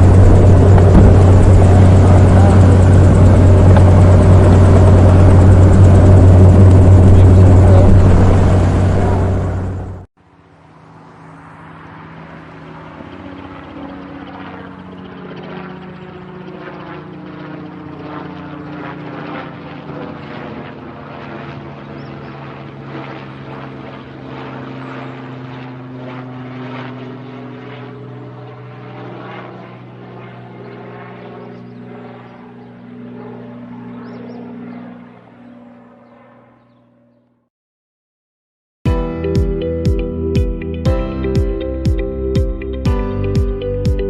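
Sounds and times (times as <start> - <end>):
helicopter rotor chopping: 0.0 - 37.2.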